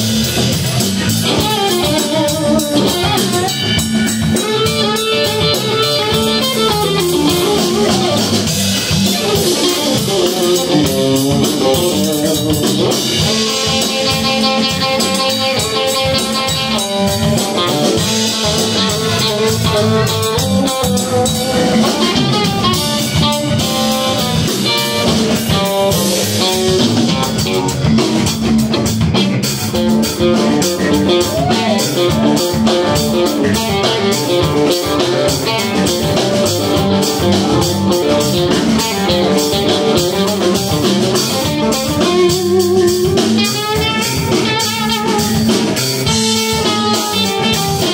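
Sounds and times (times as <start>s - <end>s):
drum kit: 0.0s - 47.9s
electric bass: 0.0s - 47.9s
electric guitar lead: 0.0s - 47.9s.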